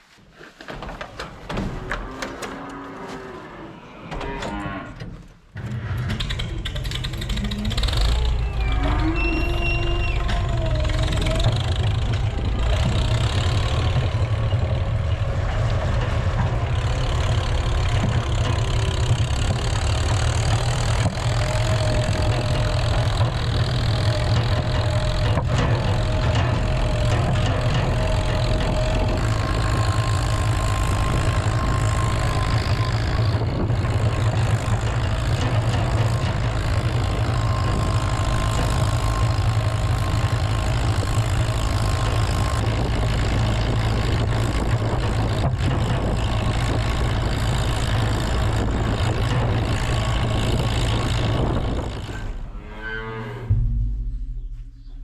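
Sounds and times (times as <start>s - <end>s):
heavy engine running: 5.1s - 52.6s.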